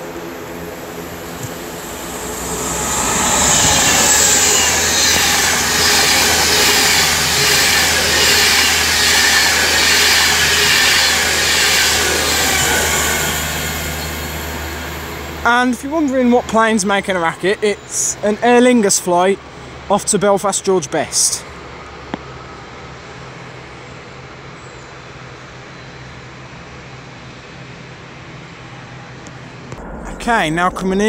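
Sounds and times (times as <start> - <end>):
electric train passing with roar: 0.0 - 19.9, 21.1 - 31.0.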